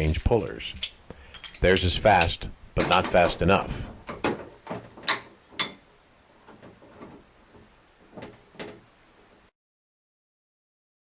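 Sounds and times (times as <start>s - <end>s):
metal parts clacking: 0.0s - 8.9s.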